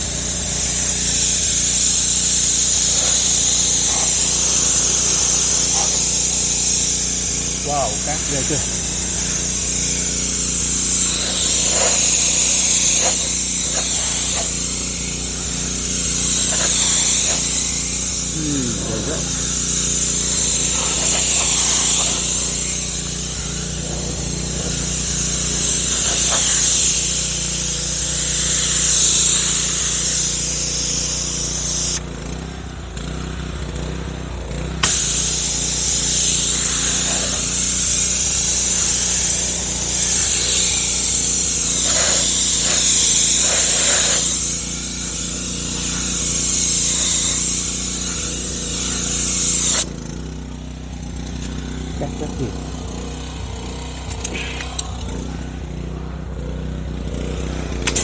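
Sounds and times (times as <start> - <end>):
water jets hissing: 0.0 - 32.0, 34.8 - 49.9
pressure washer humming: 0.0 - 58.0.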